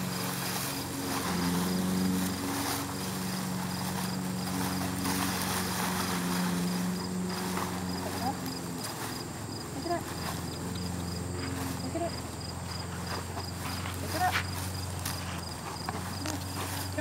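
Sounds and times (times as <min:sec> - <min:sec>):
engine humming: 0:00.0 - 0:17.0
faint insect chirping: 0:00.0 - 0:17.0.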